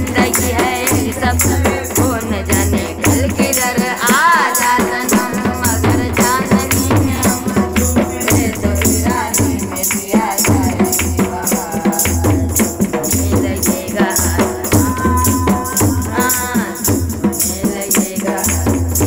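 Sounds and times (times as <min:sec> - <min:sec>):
tambourine jingles: 0:00.0 - 0:19.0
woman singing folk song: 0:00.0 - 0:19.0.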